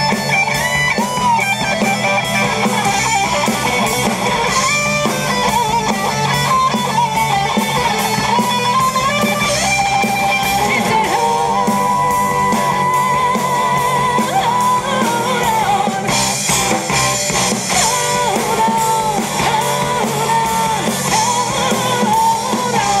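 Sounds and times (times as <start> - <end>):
bass guitar: 0.0 - 23.0
drums: 0.0 - 23.0
lead electric guitar: 0.0 - 23.0
rhythm guitar: 0.0 - 23.0.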